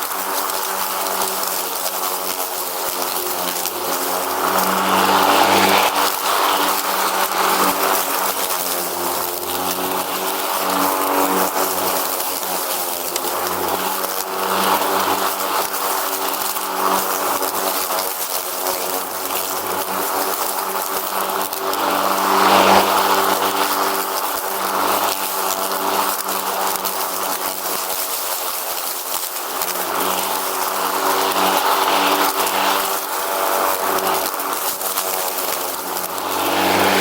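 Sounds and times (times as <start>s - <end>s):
riding mower engine drone: 0.0s - 37.0s.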